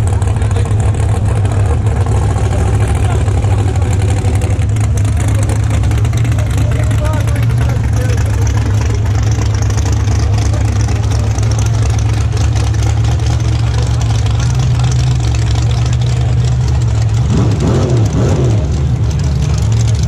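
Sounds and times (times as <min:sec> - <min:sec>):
race car engine idling and revving: 0:00.0 - 0:20.0.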